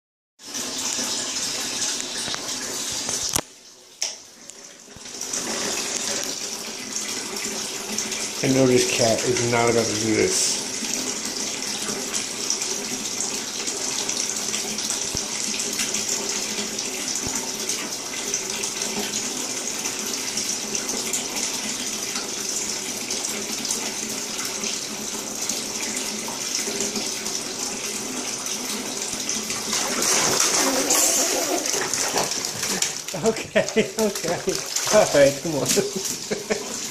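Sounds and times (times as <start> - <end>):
water pouring into bathtub: 0.4 - 36.9.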